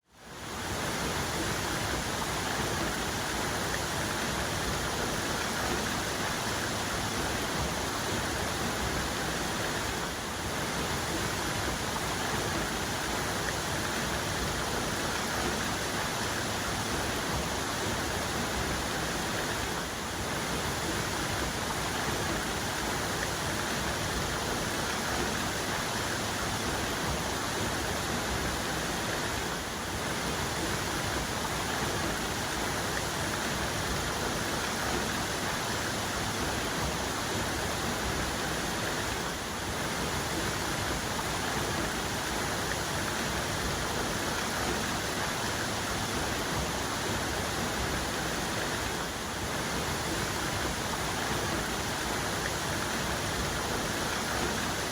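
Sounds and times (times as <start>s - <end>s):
waterfall rushing and splashing: 0.2s - 54.9s.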